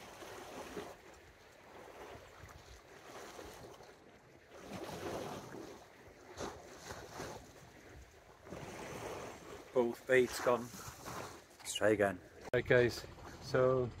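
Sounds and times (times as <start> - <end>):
water lapping against stone: 0.0 - 12.6.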